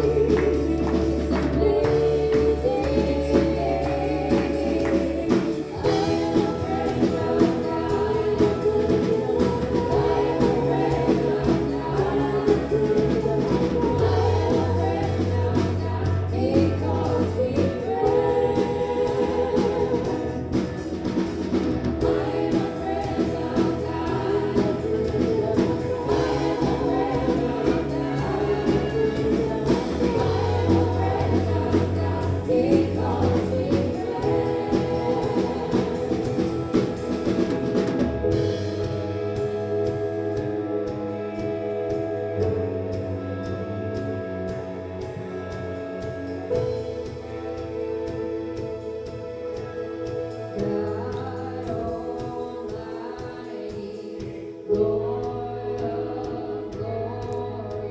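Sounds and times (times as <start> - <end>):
sustained bass notes: 0.0 - 53.4
choir singing gospel music: 0.0 - 57.9.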